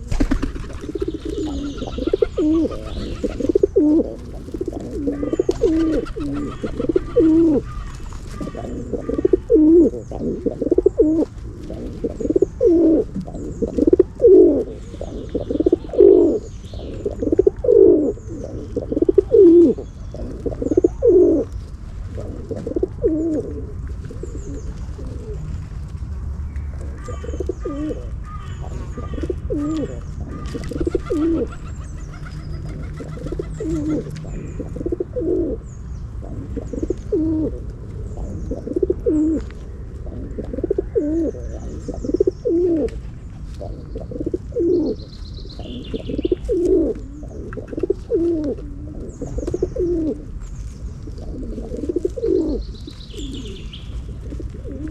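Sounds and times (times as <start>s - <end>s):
pigeons cooing: 0.0s - 54.9s
small birds chirping: 0.0s - 54.9s.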